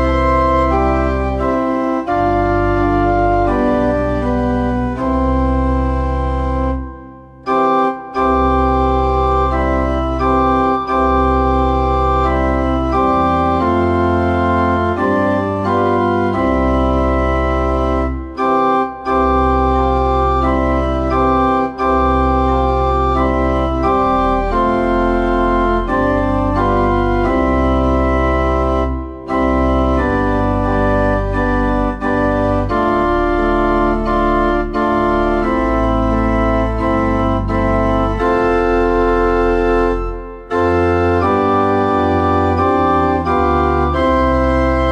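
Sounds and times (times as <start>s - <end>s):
organ chords over deep bass: 0.0s - 44.9s.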